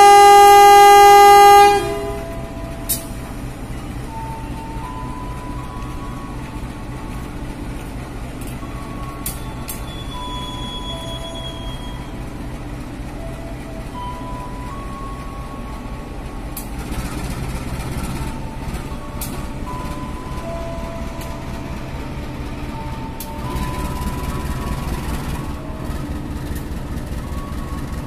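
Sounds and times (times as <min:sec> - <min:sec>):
diesel engine drone: 0:00.0 - 0:28.0
wheels squealing: 0:00.0 - 0:28.0.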